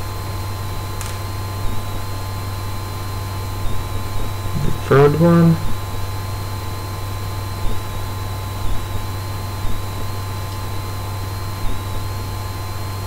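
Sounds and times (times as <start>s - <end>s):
faint high whine: 0.0s - 13.0s
low electrical hum and hiss: 0.0s - 13.0s.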